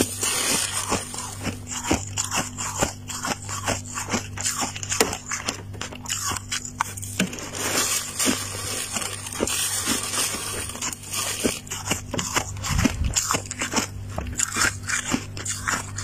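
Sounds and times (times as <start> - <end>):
crunching of chewed freezer frost: 0.0 - 16.0
low steady hum: 0.0 - 16.0.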